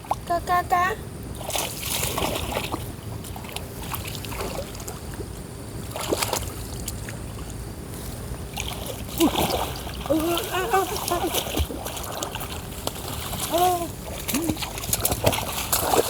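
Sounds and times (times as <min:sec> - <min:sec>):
shallow water splashing: 0:01.4 - 0:16.0.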